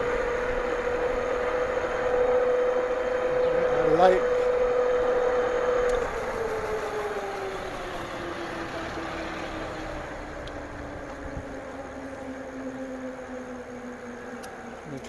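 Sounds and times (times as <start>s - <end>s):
electric bike motor whining: 0.0s - 15.0s
wind and tyre noise: 0.0s - 15.0s.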